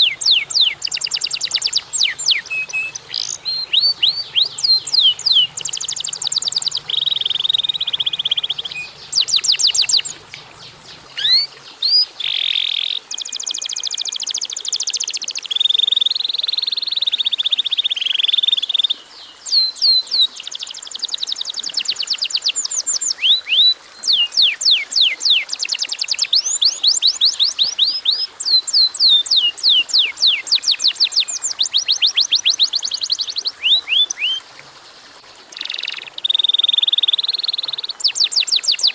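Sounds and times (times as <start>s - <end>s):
canary singing: 0.0s - 34.4s, 35.5s - 38.9s.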